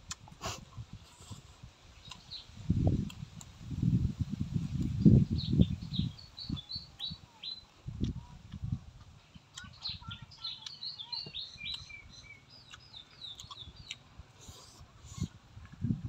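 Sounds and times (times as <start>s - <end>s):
mouth chewing sounds: 0.0s - 3.6s, 5.7s - 15.8s
small birds chirping: 0.8s - 3.5s, 4.6s - 15.4s.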